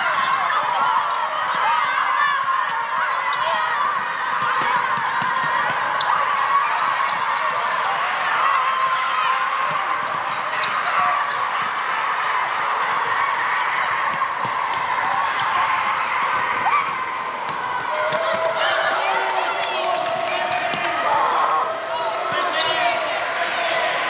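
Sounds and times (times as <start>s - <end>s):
boys shouting and cheering: 0.0s - 24.0s.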